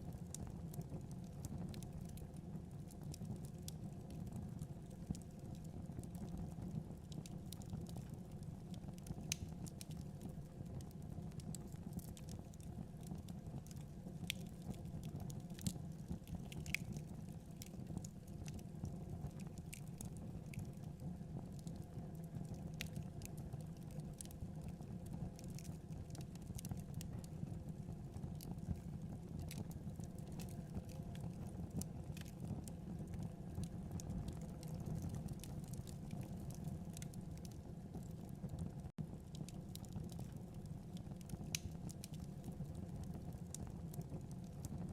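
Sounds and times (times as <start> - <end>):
fire burning with crackles: 0.0 - 44.9.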